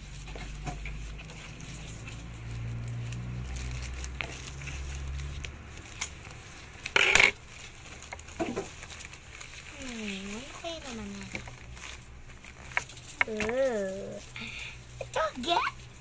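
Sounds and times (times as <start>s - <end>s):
scissors cutting plastic bag: 0.0s - 14.3s
plastic bag crinkling: 0.0s - 16.0s
plastic bag rustling: 0.0s - 16.0s.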